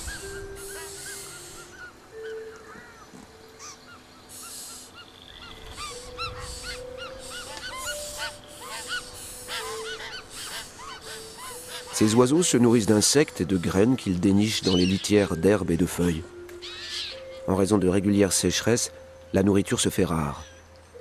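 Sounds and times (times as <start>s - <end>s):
rasping hiss-like bird calls: 0.0s - 17.7s
bird chirps: 0.0s - 20.7s.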